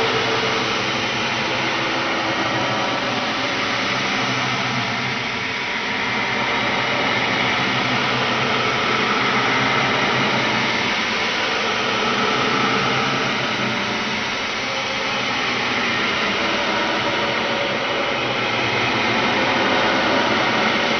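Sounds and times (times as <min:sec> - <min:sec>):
dense noisy drone: 0:00.0 - 0:20.9.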